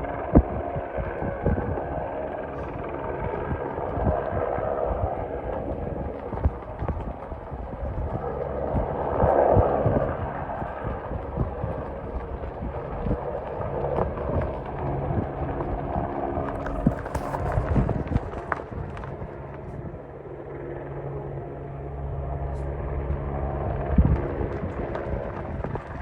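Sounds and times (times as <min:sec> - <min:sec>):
helicopter rotor and engine: 0:00.0 - 0:26.0
hoofbeats of running bison: 0:00.1 - 0:20.2, 0:23.1 - 0:26.0.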